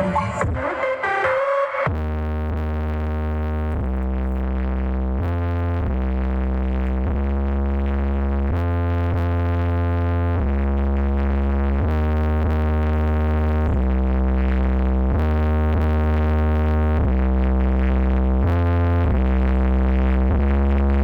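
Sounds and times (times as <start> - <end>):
heavy bass synthesizer music: 0.0 - 21.0.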